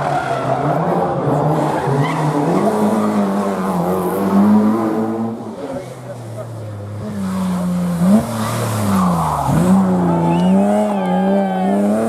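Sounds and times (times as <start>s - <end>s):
rally car engine revving: 0.0s - 12.0s
tyre and road noise: 0.0s - 12.0s.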